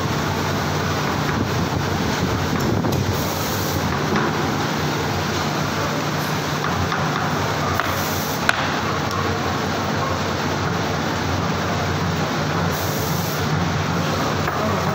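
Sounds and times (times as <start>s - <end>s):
factory machinery humming: 0.0s - 14.9s.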